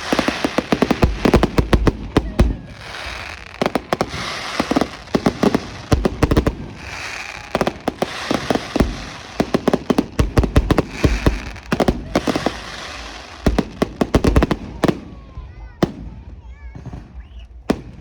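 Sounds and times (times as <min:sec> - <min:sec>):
hissing crackle: 0:00.0 - 0:14.6
fireworks bangs: 0:00.0 - 0:18.0.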